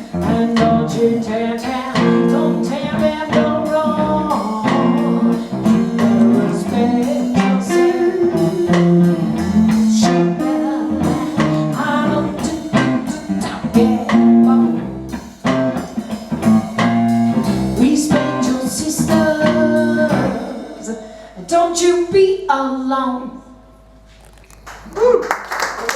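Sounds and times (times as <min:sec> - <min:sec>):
blues band playing: 0:00.0 - 0:20.9
plucked guitar notes: 0:00.0 - 0:20.9.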